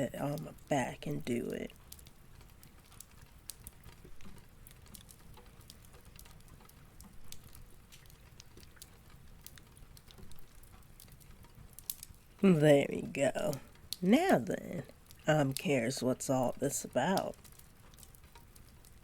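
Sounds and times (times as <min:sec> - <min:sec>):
crackling fireplace: 0:00.0 - 0:19.0
soft rain: 0:00.0 - 0:19.0.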